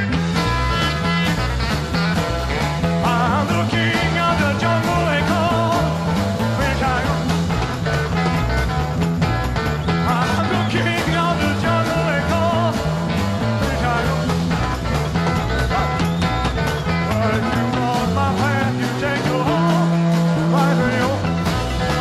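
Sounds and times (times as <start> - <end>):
rock music with drums and bass: 0.0 - 22.0.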